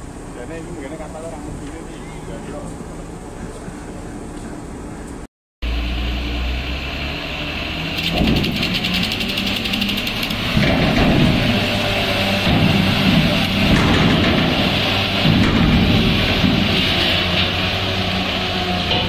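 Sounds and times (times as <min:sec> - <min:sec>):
diesel truck engine climbing ramp: 0:00.0 - 0:19.0.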